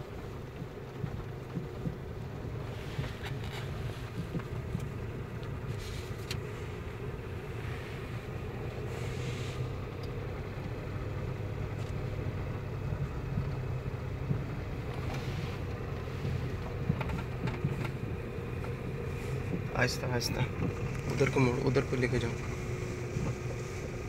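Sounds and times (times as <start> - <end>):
car engine humming: 0.0 - 24.0
tyre and road noise: 0.0 - 24.0.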